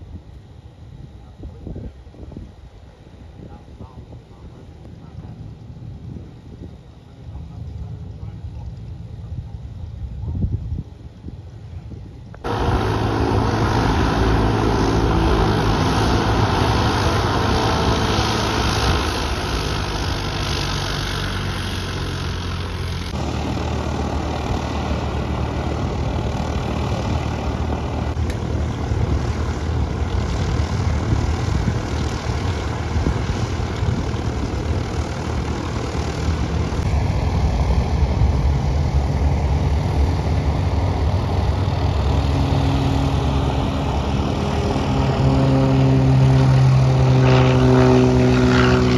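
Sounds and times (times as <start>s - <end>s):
propeller airplane engine running: 0.0s - 48.9s.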